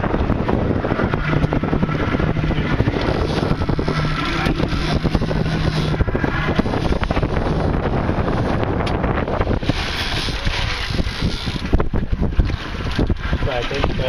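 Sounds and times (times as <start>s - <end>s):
outboard motor humming: 0.0s - 14.0s
wind buffeting microphone: 0.0s - 14.0s.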